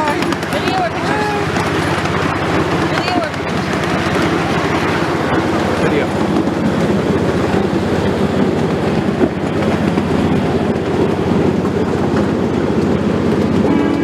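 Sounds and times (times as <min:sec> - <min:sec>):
train running along track: 0:00.0 - 0:14.0.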